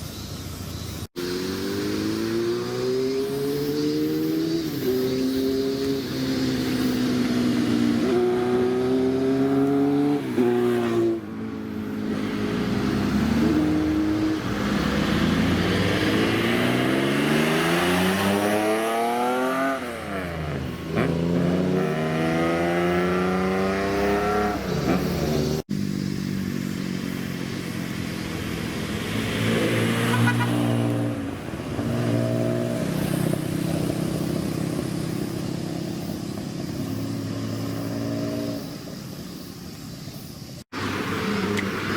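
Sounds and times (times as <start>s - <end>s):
car engines revving: 1.1s - 41.9s.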